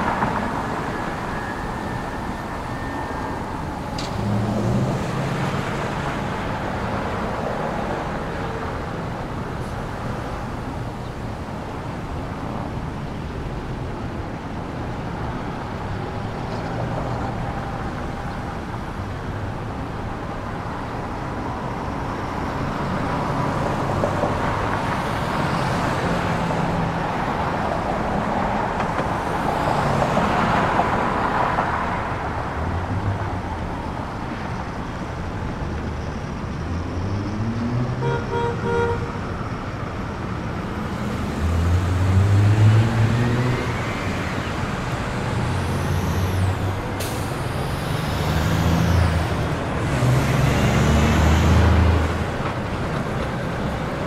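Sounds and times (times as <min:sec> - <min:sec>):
heavy truck engine: 0:00.0 - 0:54.0.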